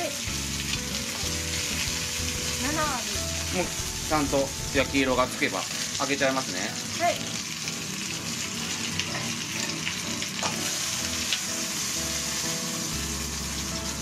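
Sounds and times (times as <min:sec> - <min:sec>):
chicken sizzling in frying pan: 0:00.0 - 0:14.0.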